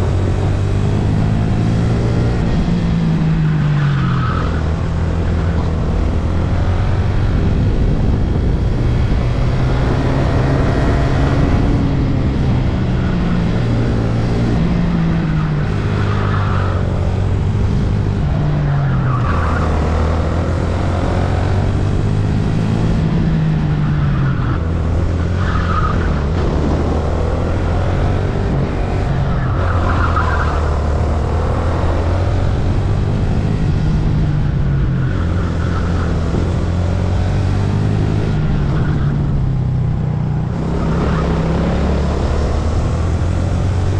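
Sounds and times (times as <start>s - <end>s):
racing kart engine: 0.0s - 43.9s.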